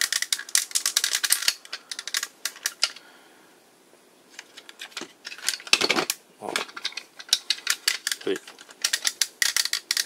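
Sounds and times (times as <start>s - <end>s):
plastic toy parts clicking: 0.0s - 3.0s, 4.3s - 10.0s.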